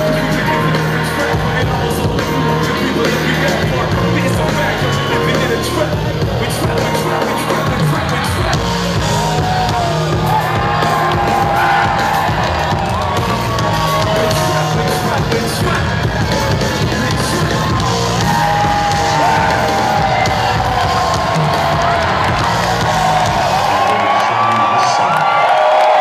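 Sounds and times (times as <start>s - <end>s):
live band music: 0.0s - 25.4s
crowd yelling and whooping: 0.0s - 26.0s.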